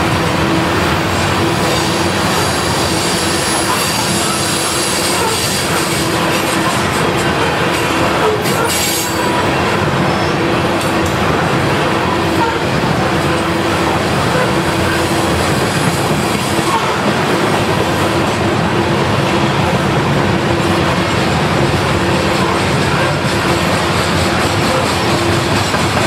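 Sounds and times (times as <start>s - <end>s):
freight train wheels on rails: 0.0s - 26.0s.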